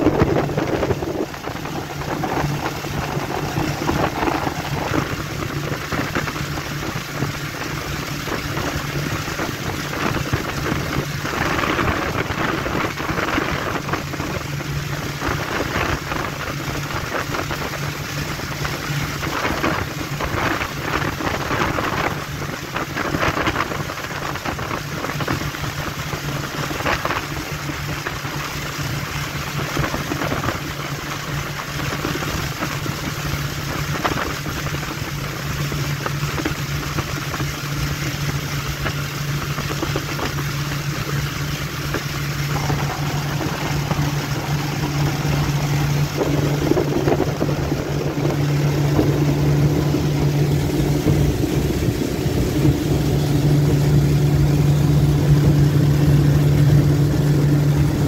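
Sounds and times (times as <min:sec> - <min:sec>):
hull splashing through water: 0:00.0 - 0:58.0
motorboat engine hum: 0:00.0 - 0:58.0
rushing wind and water: 0:00.0 - 0:58.0.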